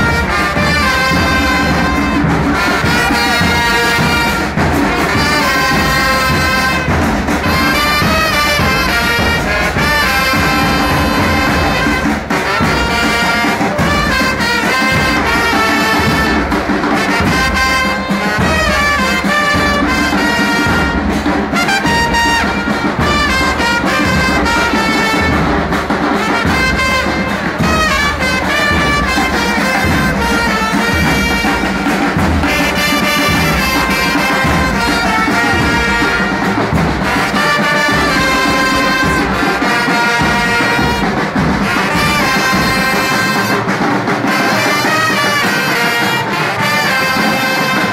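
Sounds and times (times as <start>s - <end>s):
brass band playing chant melody: 0.0s - 47.9s
regular drum beat: 0.0s - 47.9s.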